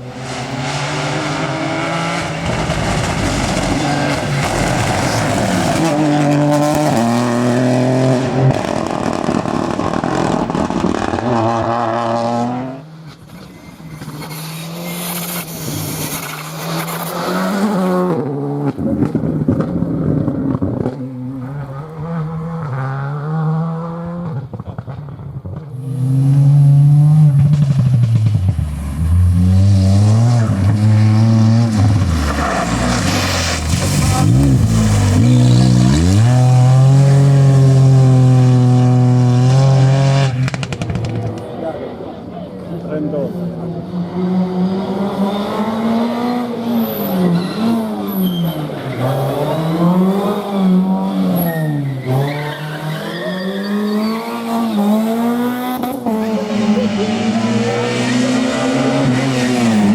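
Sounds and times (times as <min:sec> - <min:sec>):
rally car engines revving past: 0:00.0 - 0:59.9.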